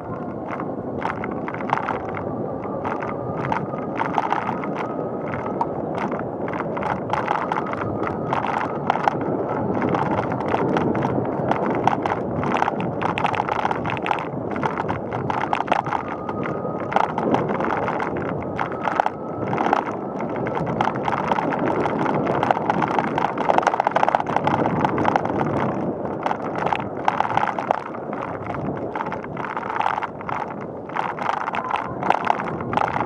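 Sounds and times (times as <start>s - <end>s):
bike rattles and clicks: 0.0s - 33.0s
tyre and wind noise: 0.0s - 33.0s.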